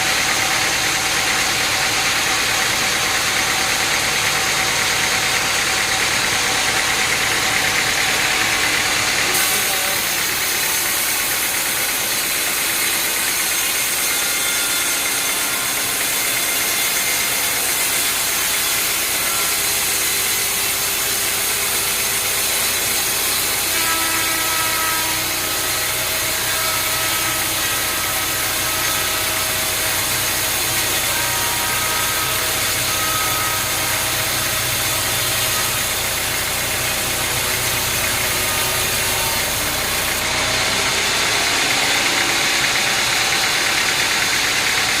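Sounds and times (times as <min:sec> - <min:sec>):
sawmill machinery hiss: 0:00.0 - 0:45.0.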